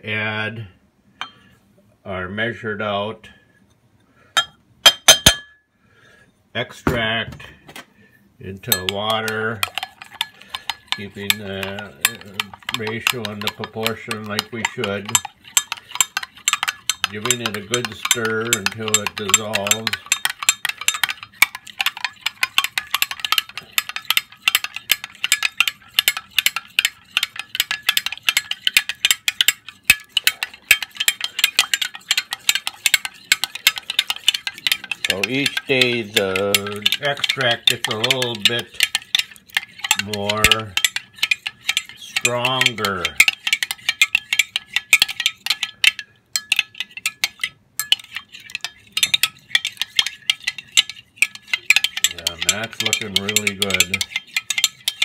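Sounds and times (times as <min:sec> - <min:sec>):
metal spoon clinking against glass: 0:04.4 - 0:05.5, 0:08.7 - 0:55.0.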